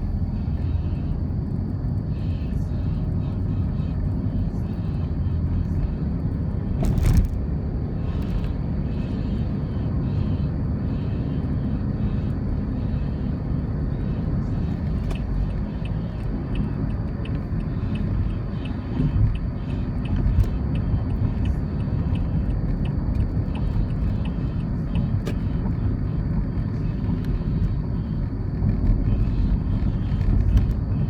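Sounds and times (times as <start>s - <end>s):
road vehicle rumble: 0.0s - 31.0s.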